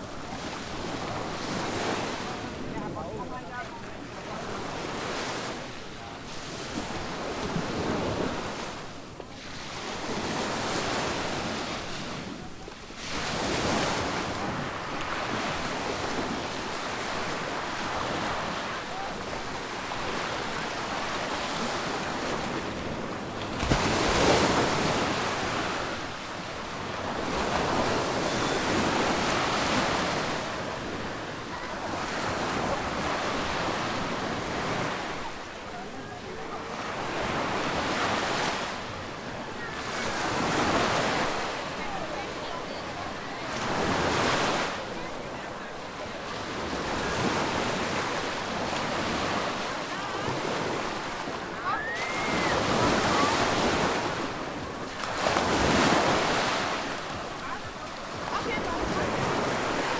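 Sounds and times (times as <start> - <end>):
waves washing onto beach: 0.0 - 59.9.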